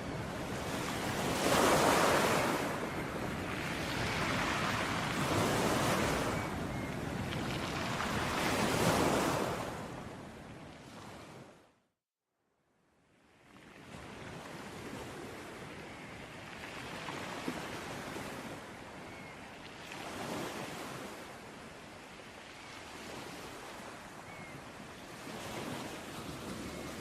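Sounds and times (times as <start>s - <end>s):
sea waves breaking on beach: 0.0s - 11.5s, 13.6s - 27.0s.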